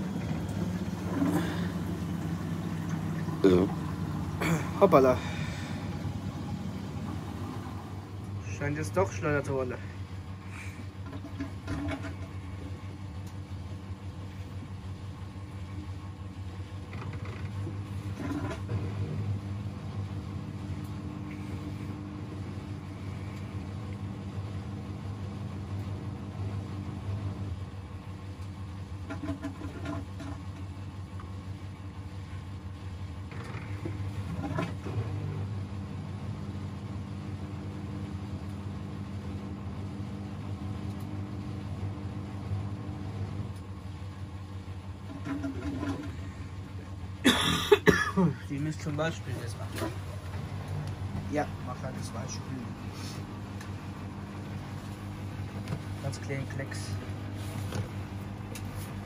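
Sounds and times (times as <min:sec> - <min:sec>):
washing machine motor humming: 0:00.0 - 0:59.0.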